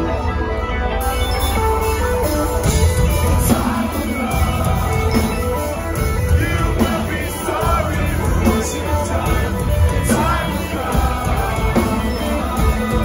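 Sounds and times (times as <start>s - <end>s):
bass guitar: 0.0s - 13.0s
drums: 0.0s - 13.0s
electric guitars: 0.0s - 13.0s.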